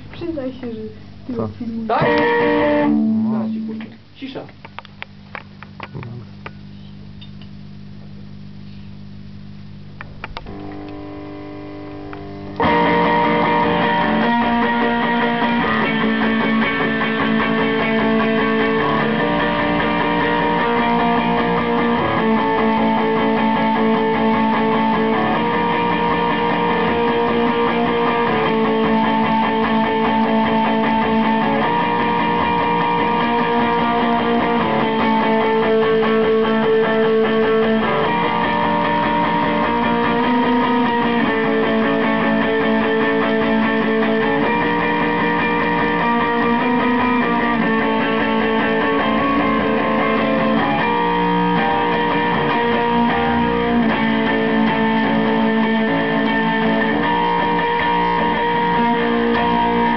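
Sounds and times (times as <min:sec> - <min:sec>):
rock music with electric guitar: 0:02.0 - 0:03.8, 0:10.5 - 0:59.9.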